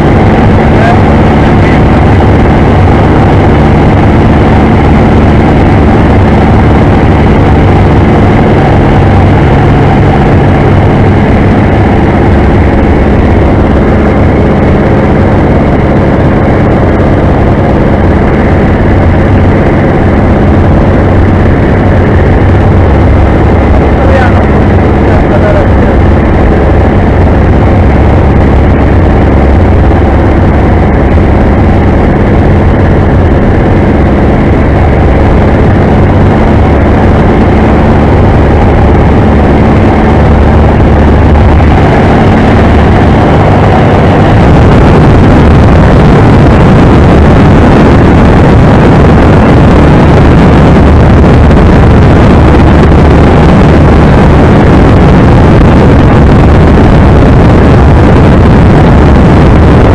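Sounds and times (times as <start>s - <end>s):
aircraft engine droning: 0.0s - 59.9s
rough rush of noise: 0.0s - 59.9s.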